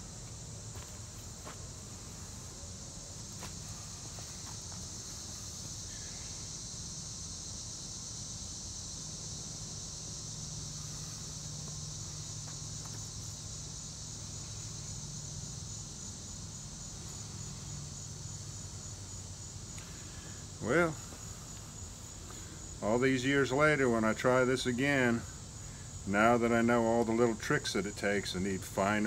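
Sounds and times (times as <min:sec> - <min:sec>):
insect chorus drone: 0:00.0 - 0:29.0.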